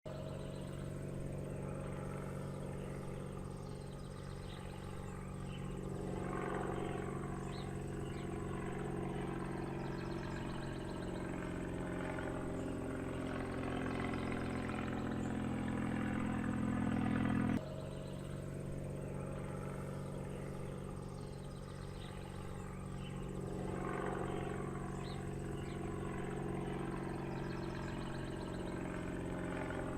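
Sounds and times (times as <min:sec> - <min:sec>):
airplane engine drone: 0:00.1 - 0:29.9.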